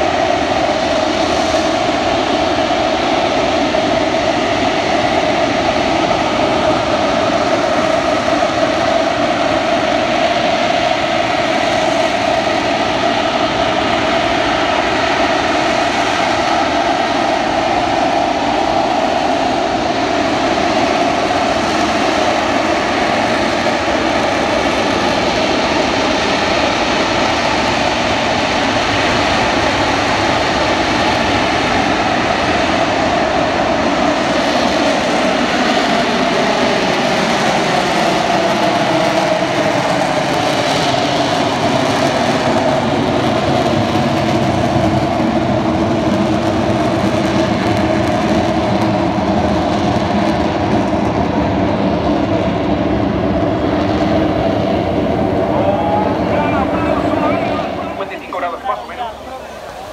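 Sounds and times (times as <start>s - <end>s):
jet engine droning: 0.0s - 59.9s.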